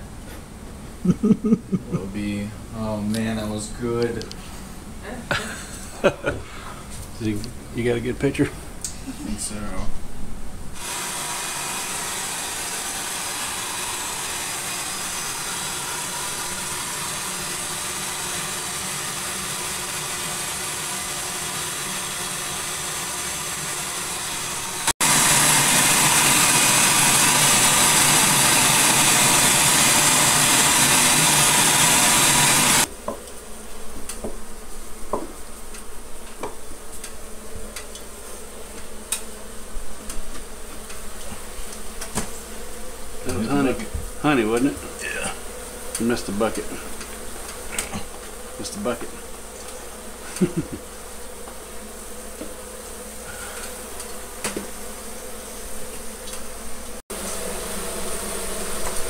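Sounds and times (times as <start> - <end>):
bee vacuum running: 10.8 - 59.0
bees buzzing: 10.8 - 59.0.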